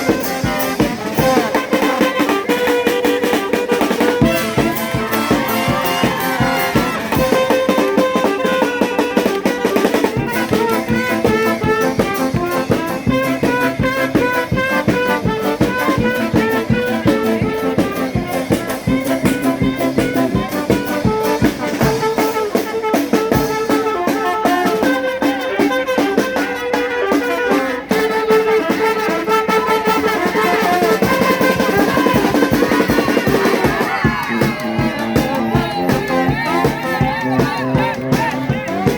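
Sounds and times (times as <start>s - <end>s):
steady drumbeat: 0.0s - 24.0s, 28.0s - 38.9s
brass and saxophones melody: 0.0s - 38.9s.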